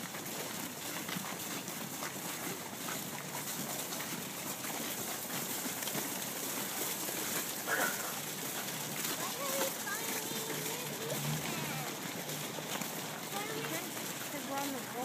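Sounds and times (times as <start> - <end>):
crowd footsteps shuffling: 0.0 - 15.0.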